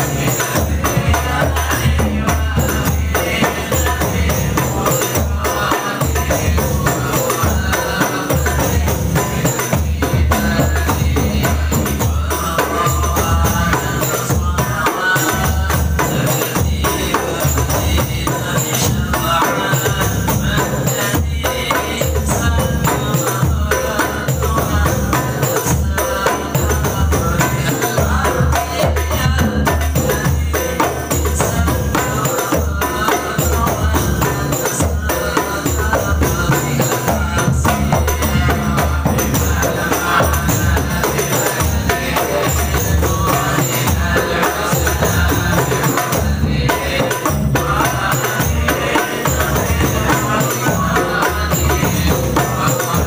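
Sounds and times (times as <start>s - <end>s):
frame drums beating: 0.0s - 53.0s
men singing in unison: 0.0s - 53.0s.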